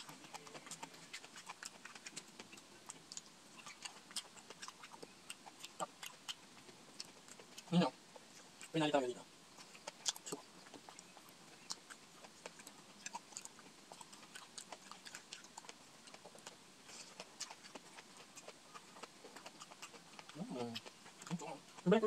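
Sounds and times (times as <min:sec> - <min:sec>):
chewing and mouth sounds: 0:00.0 - 0:08.9, 0:09.5 - 0:22.0.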